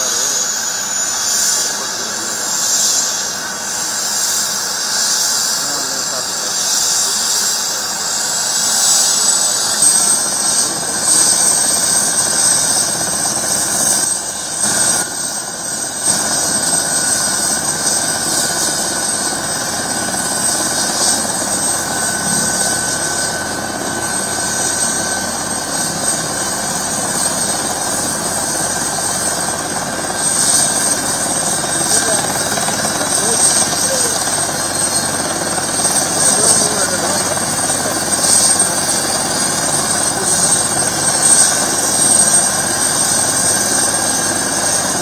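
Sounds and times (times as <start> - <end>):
helicopter turbine engine whine: 0.0 - 45.0.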